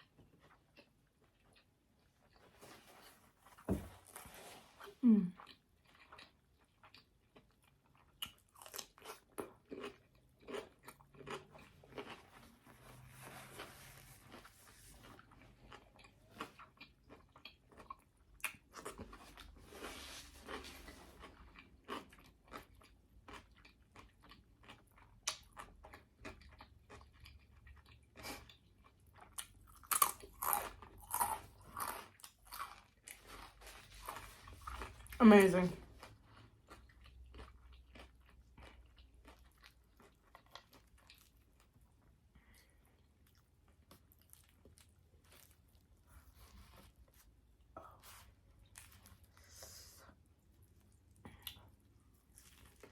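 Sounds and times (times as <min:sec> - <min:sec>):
person chewing crunchy food: 0:00.0 - 0:35.2, 0:35.8 - 0:52.9.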